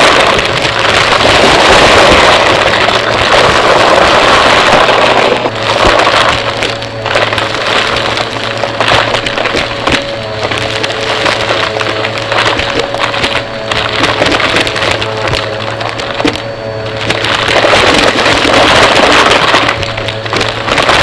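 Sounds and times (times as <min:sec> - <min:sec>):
debris rattling through vacuum: 0:00.0 - 0:21.0
vacuum cleaner running: 0:00.0 - 0:21.0.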